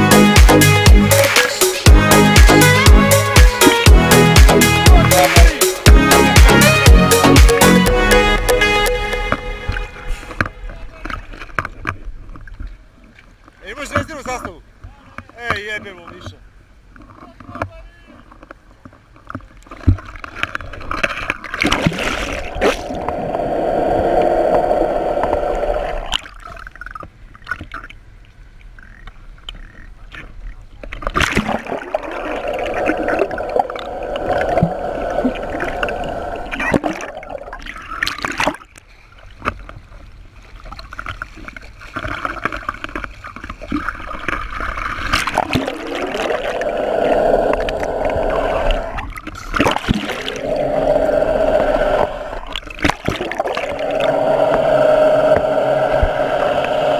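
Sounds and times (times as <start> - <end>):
water gurgling and sloshing: 5.8 - 56.9.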